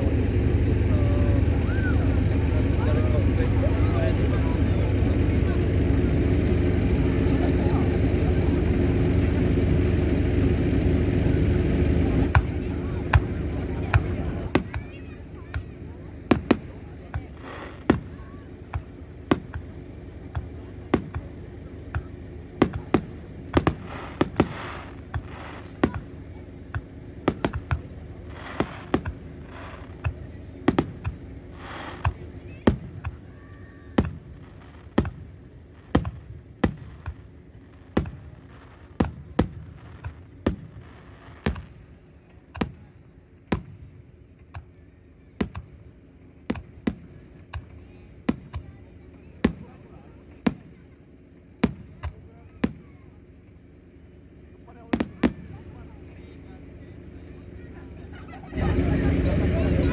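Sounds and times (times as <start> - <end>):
fireworks bursting with bangs: 0.0 - 59.9.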